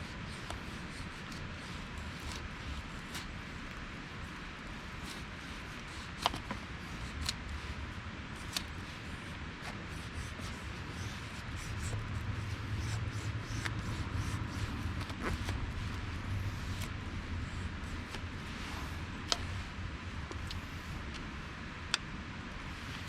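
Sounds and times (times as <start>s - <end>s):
knife scraping wood: 0.0s - 21.3s.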